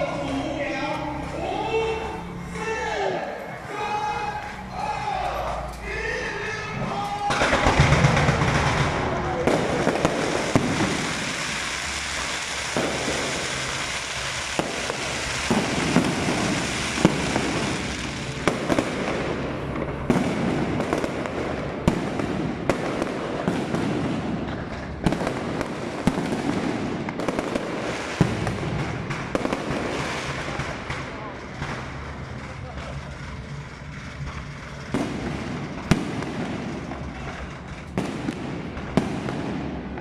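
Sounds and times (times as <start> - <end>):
fireworks crackling: 0.0 - 40.0
firework shells bursting: 7.2 - 40.0.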